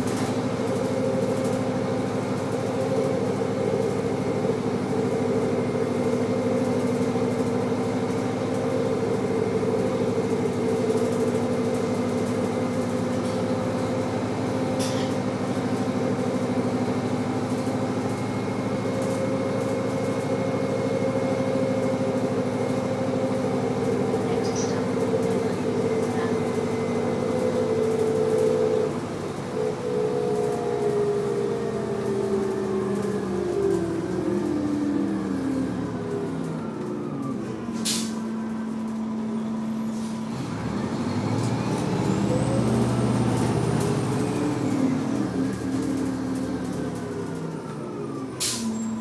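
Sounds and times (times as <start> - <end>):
bus engine droning: 0.0 - 49.0
road noise: 0.0 - 49.0.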